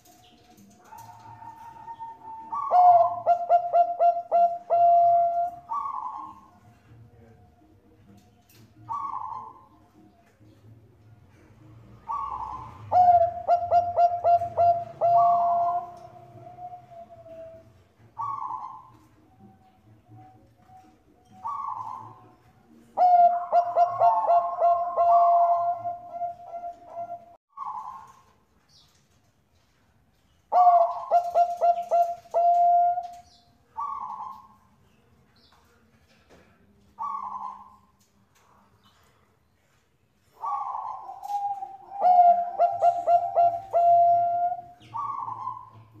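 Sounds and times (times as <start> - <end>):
dove cooing: 0.0 - 7.6, 8.5 - 10.2, 11.3 - 28.3, 30.5 - 34.7, 37.0 - 38.0, 40.2 - 46.0.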